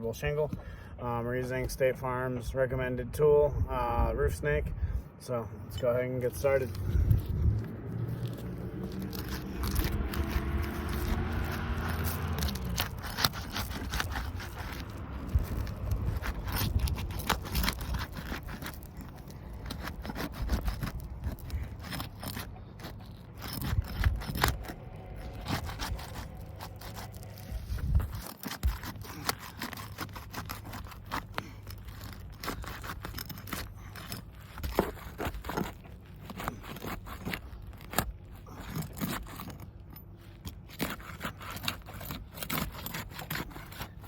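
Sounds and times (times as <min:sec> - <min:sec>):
tool scraping roof shingles: 0:06.2 - 0:44.0.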